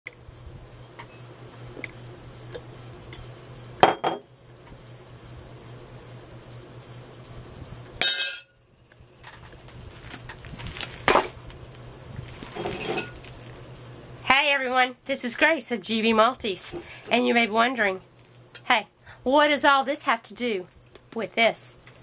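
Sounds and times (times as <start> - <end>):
low steady hum: 0.1 - 22.0.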